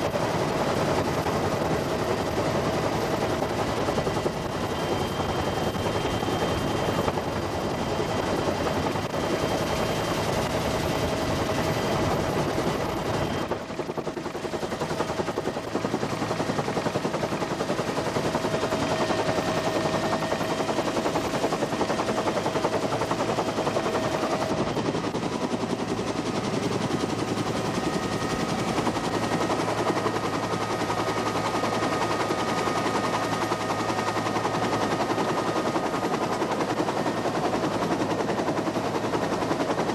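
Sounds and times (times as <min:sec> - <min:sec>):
helicopter rotor blades chopping: 0:00.0 - 0:39.9
turbine engine whine: 0:00.0 - 0:39.9.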